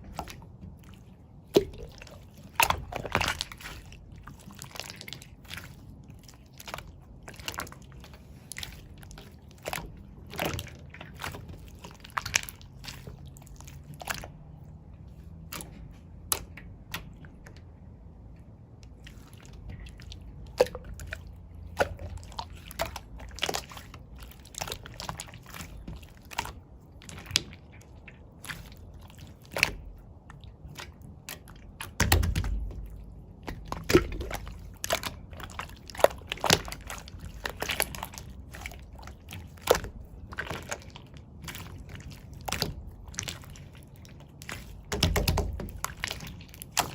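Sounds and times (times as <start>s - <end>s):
slime squishes: 0.0s - 46.9s.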